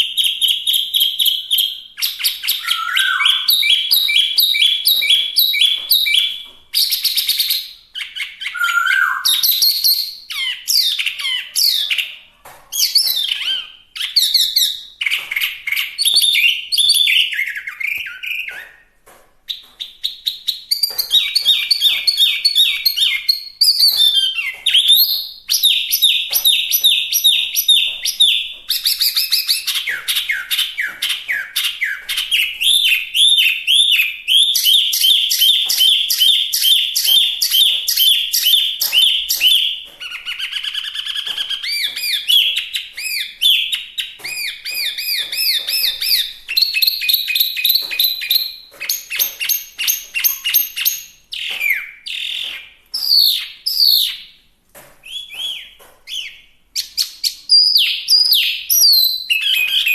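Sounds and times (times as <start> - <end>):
bird singing varied song: 0.0 - 18.9, 19.5 - 54.3, 55.0 - 59.9.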